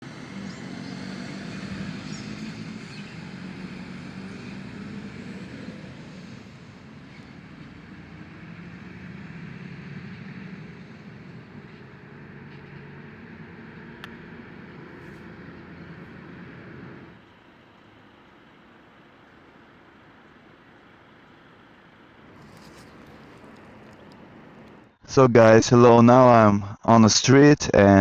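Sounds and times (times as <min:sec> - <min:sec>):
vehicle engine running: 0:00.0 - 0:25.0
road noise: 0:00.0 - 0:25.6.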